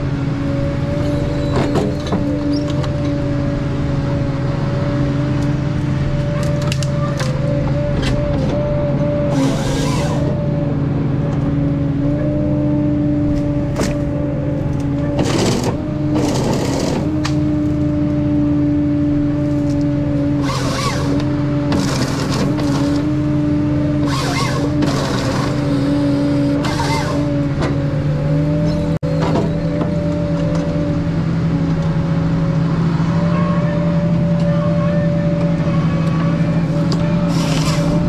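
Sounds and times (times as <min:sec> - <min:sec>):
harvester diesel engine drone: 0:00.0 - 0:38.0.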